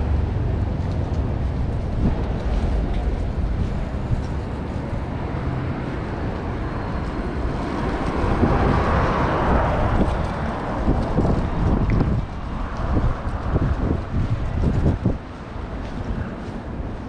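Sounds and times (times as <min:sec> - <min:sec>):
vehicle passing close by: 0:00.0 - 0:15.7
low traffic rumble: 0:00.0 - 0:17.0.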